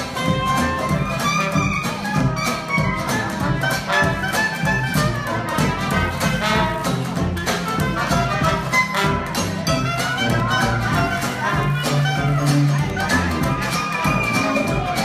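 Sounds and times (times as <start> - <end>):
jazz band playing: 0.0 - 15.0
trombone: 0.0 - 15.0
trumpet: 0.0 - 15.0.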